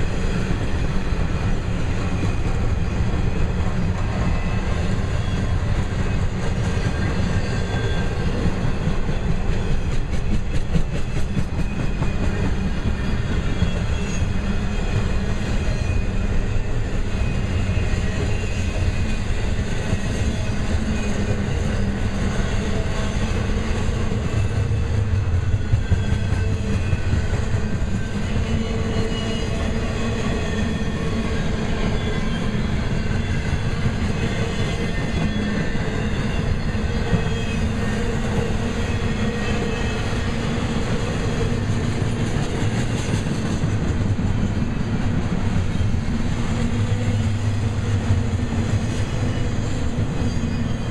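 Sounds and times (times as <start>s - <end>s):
train wheels clattering on rails: 0.0s - 50.9s.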